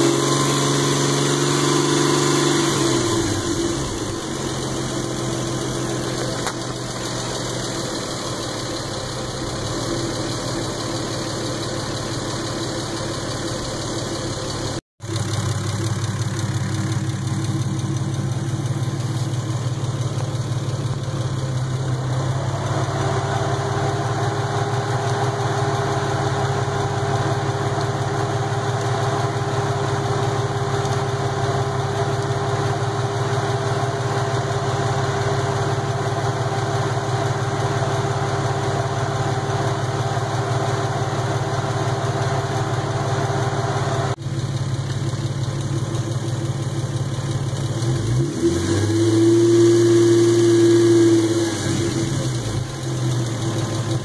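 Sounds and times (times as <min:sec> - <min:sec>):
engine revving: 0:00.0 - 0:13.7, 0:14.3 - 0:44.2, 0:47.5 - 0:54.0
car engine idling: 0:00.0 - 0:54.0.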